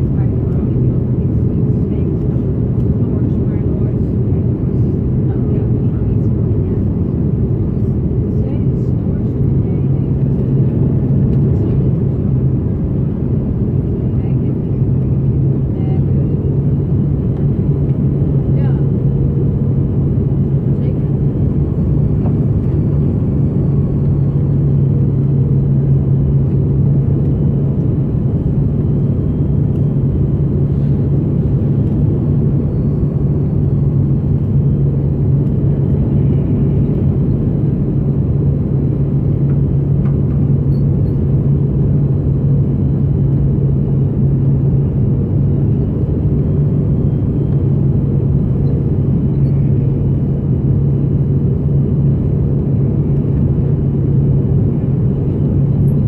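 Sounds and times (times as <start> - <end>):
aircraft cabin drone: 0.0 - 56.0
faint high engine whine: 0.0 - 56.0.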